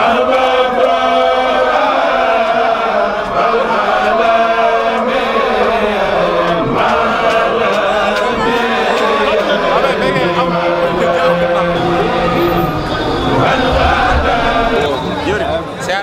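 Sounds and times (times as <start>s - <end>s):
group of voices chanting: 0.0s - 15.9s.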